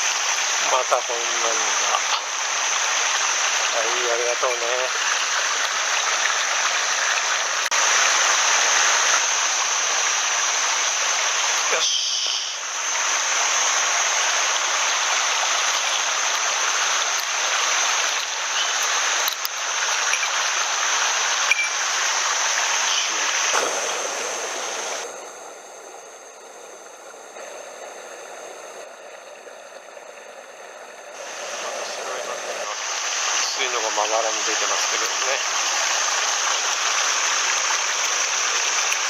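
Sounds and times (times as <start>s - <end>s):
stream rushing over rocks: 0.0s - 11.9s, 12.5s - 25.4s, 30.3s - 39.0s.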